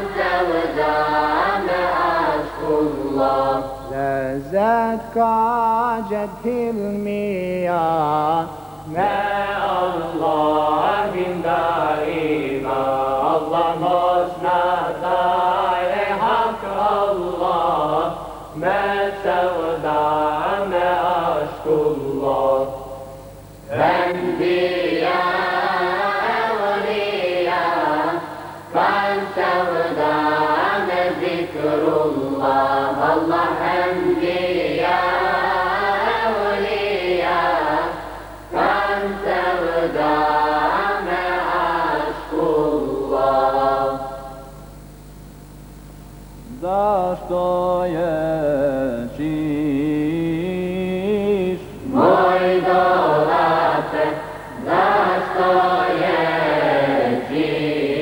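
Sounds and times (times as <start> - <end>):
male choir singing unaccompanied: 0.0 - 23.0, 23.7 - 44.5, 46.5 - 58.0
steady low hum: 0.0 - 58.0.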